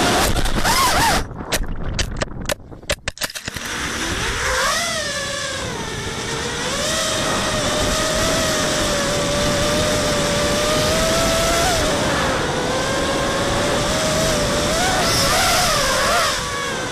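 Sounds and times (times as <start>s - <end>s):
drone motors whining: 0.0s - 1.3s, 3.3s - 16.9s.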